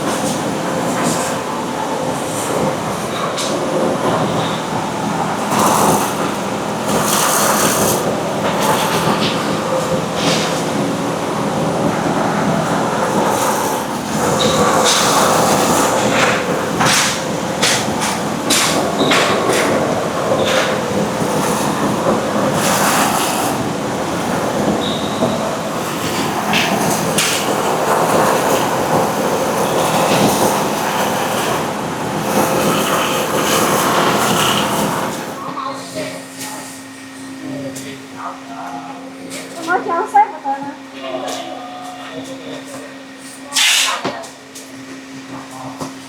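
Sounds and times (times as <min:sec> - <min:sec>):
machinery humming: 0:00.0 - 0:46.0.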